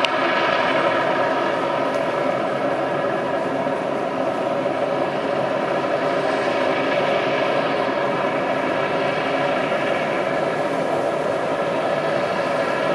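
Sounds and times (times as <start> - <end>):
helicopter rotor drone: 0.0 - 12.9.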